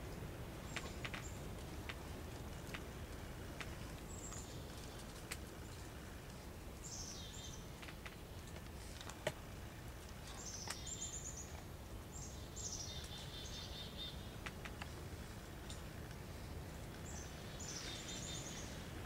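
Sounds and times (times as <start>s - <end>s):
faint steady background hiss: 0.0s - 19.0s
small birds chirping: 0.0s - 19.0s.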